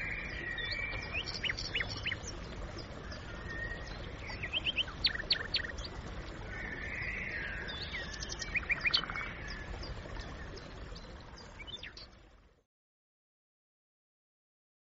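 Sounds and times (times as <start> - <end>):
songbirds chirping: 0.0 - 12.6.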